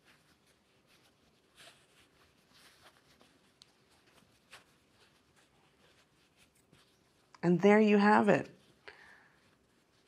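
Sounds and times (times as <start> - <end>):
fabric rustles: 0.0 - 10.0.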